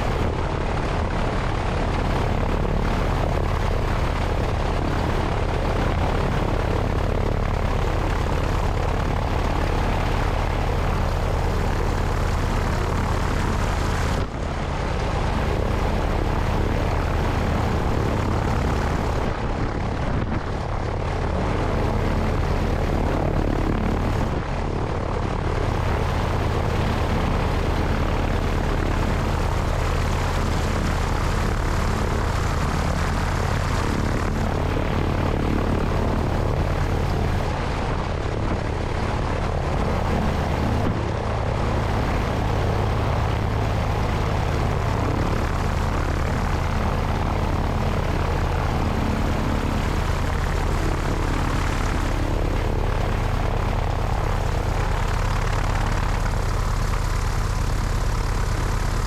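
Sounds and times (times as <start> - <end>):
light aircraft engine and propeller: 0.0 - 59.0
wind rushing over microphone: 0.0 - 59.0.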